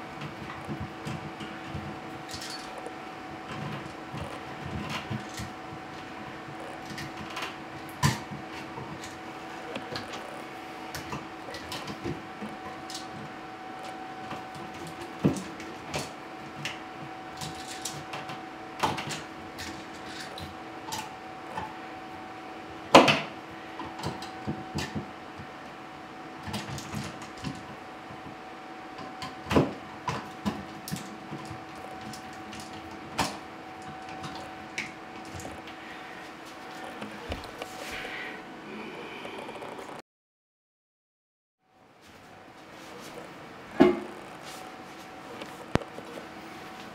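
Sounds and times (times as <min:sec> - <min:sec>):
steady hum: 0:00.0 - 0:40.0, 0:41.6 - 0:46.9.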